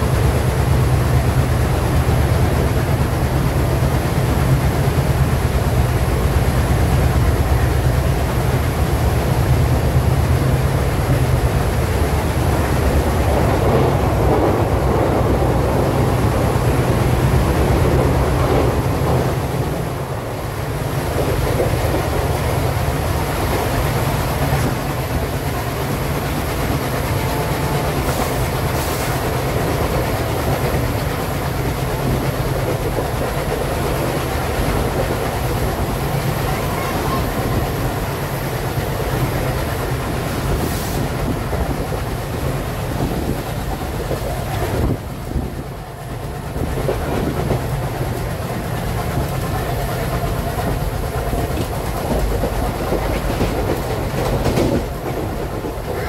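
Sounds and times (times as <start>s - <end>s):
diesel locomotive chugging: 0.0s - 56.0s
train wheels clattering on rail: 0.0s - 56.0s.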